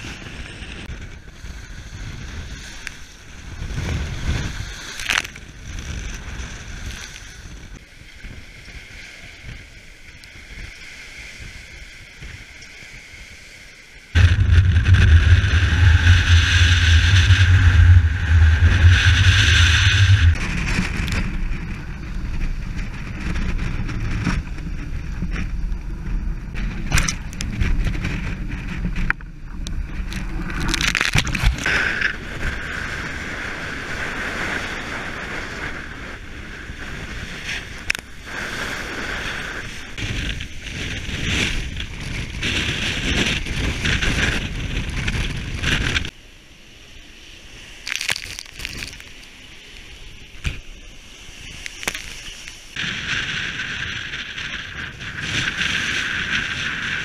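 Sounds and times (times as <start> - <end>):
wind buffeting the microphone: 0.0 - 13.3, 14.2 - 46.2, 47.5 - 57.0
water rushing along a hull: 0.0 - 57.0.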